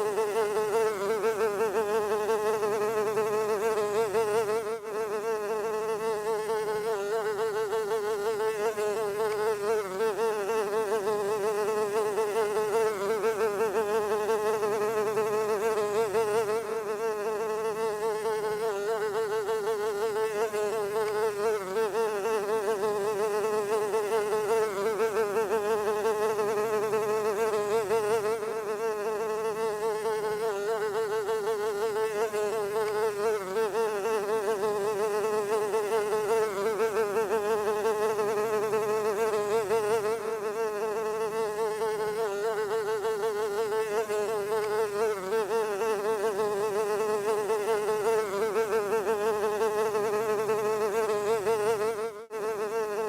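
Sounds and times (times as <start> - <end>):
fly buzzing: 0.0 - 53.0.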